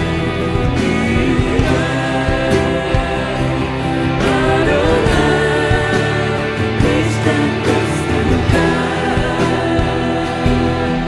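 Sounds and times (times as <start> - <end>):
drums: 0.0 - 11.0
electric and acoustic guitars: 0.0 - 11.0
electric bass: 0.0 - 11.0
women singing into microphones: 0.8 - 11.0.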